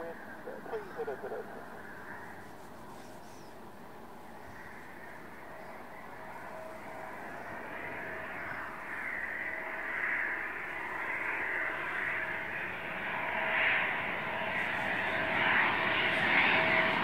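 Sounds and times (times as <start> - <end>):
faint jet whine: 0.0 - 17.0
jet engines rushing: 0.0 - 17.0.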